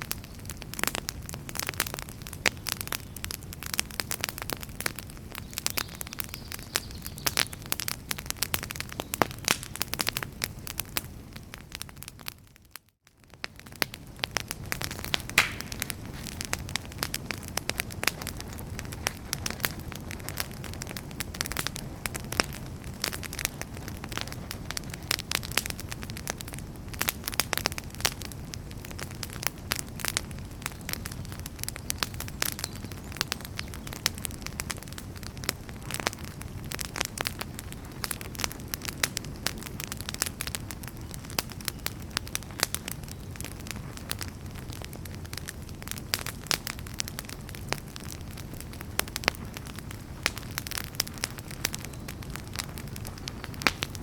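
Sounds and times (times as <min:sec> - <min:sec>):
logs crackling and popping: 0:00.0 - 0:54.0
low rumble of flame: 0:00.0 - 0:54.0.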